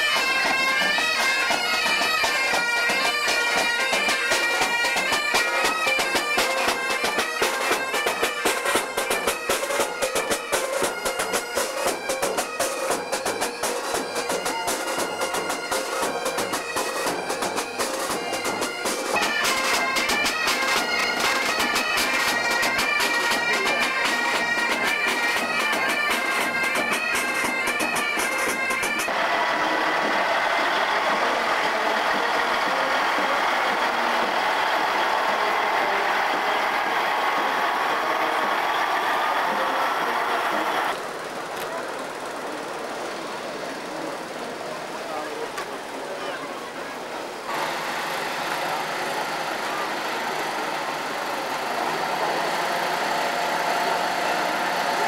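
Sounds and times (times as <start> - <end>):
marching band playing: 0.0 - 42.6, 43.2 - 55.0.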